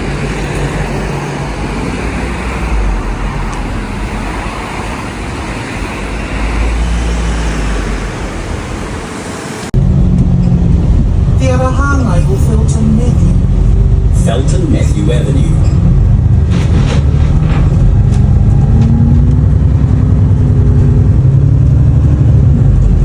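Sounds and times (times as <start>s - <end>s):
engine drone: 0.0s - 23.0s
vehicle road and engine noise: 0.0s - 23.0s.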